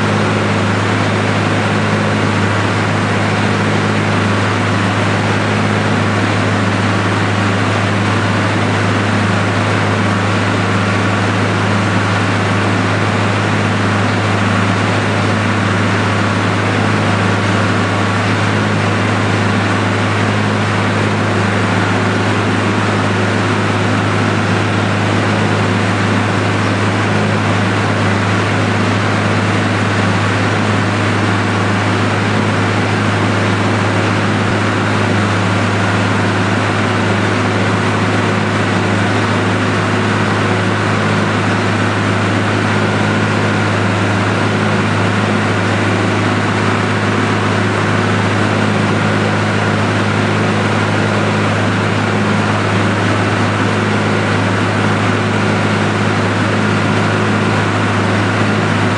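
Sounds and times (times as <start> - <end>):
feed mixer humming: 0.0 - 58.9.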